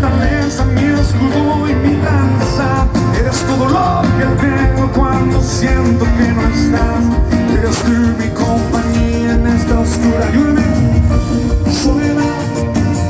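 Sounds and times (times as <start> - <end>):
live band playing pop-rock: 0.0 - 13.0
steady drum beat: 0.0 - 13.0.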